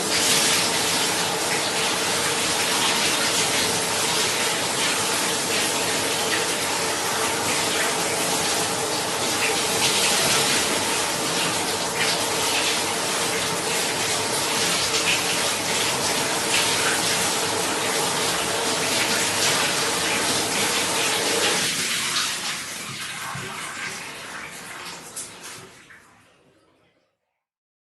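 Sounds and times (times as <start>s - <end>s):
shower water running: 0.0s - 26.9s.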